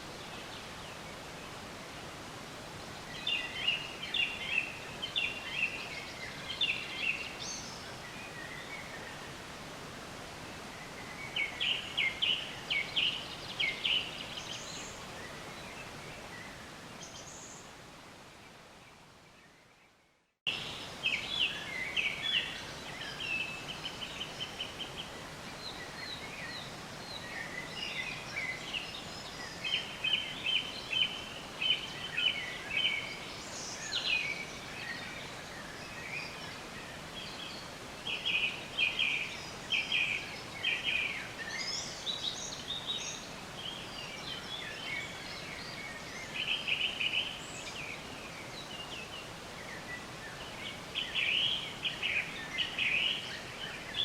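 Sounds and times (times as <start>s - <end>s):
background hiss: 0.0s - 54.0s
songbirds chirping and trilling: 0.0s - 54.0s.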